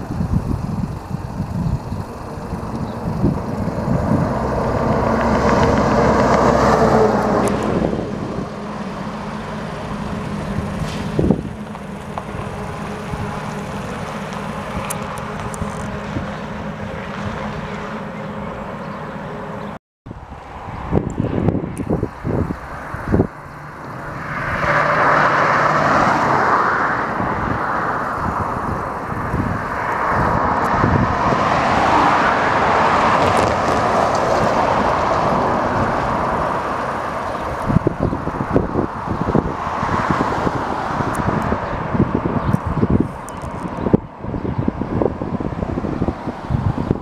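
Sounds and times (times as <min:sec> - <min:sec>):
truck driving past: 0:00.0 - 0:43.3
wind buffeting microphone: 0:00.0 - 0:47.0.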